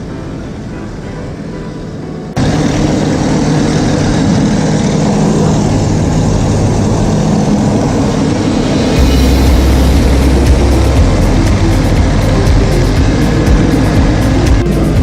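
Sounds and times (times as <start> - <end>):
small airplane engine and propeller: 0.0 - 15.0.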